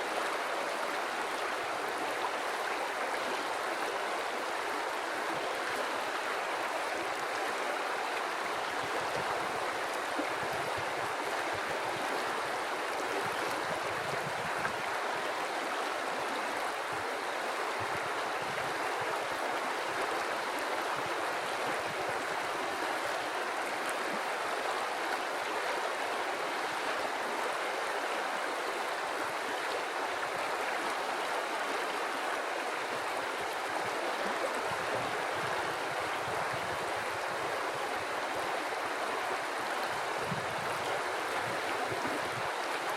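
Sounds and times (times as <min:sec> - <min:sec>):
river water flowing over rocks: 0:00.0 - 0:42.9.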